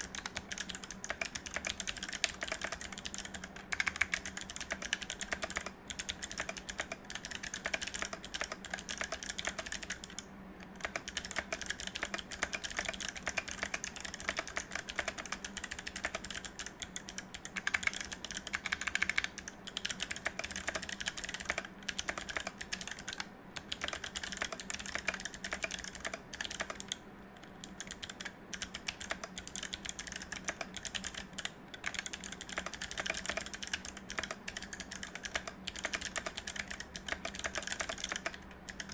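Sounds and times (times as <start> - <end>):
typing on clicky mechanical keyboard: 0.0 - 38.9.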